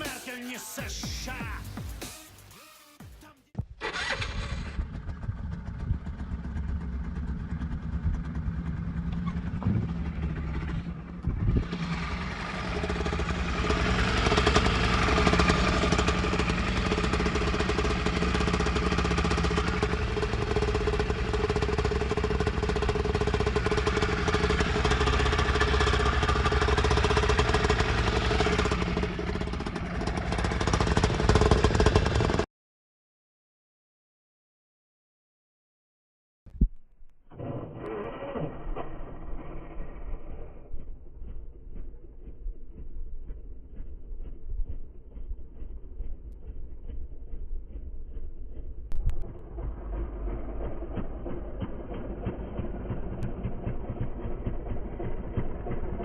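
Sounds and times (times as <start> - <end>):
scooter engine running: 3.8 - 32.5, 37.3 - 56.0.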